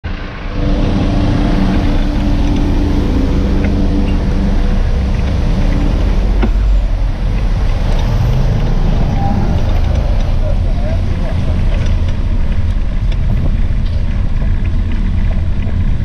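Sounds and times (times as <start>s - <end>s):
low traffic rumble: 0.0s - 16.0s
minibus engine running: 0.0s - 16.0s.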